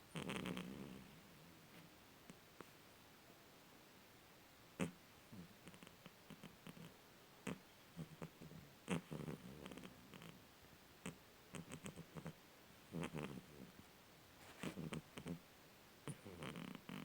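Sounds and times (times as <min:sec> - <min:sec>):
cat snoring faintly: 0:00.0 - 0:01.8, 0:04.8 - 0:17.0.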